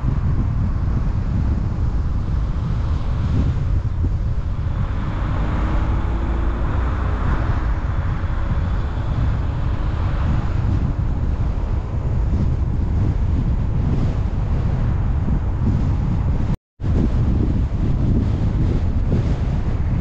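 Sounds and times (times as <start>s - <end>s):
faint car engine: 0.0s - 16.4s
road noise: 0.0s - 20.0s
wind rumble on microphone: 0.0s - 20.0s.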